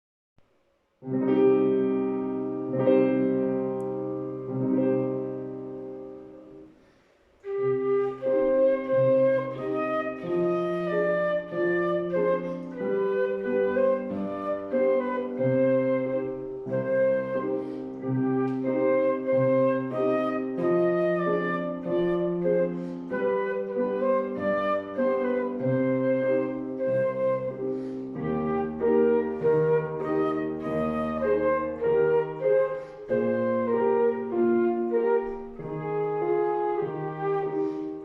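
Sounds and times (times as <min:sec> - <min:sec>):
flute melody: 0:01.0 - 0:06.8, 0:07.4 - 0:38.0
piano chords: 0:01.0 - 0:38.0.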